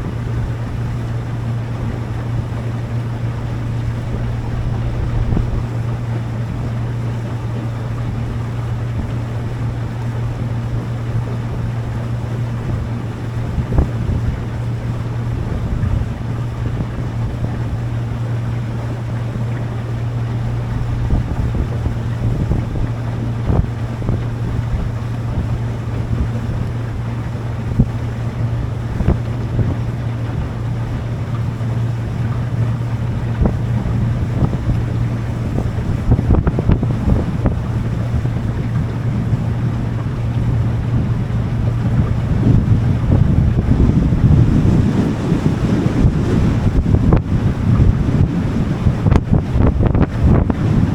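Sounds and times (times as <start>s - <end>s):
motorboat engine humming: 0.0s - 50.9s
wind buffeting microphone: 0.0s - 50.9s.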